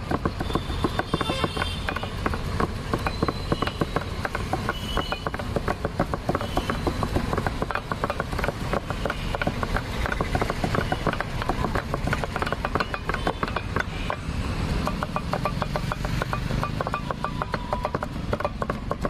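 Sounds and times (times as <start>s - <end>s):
blades chopping on wooden block: 0.0s - 19.0s.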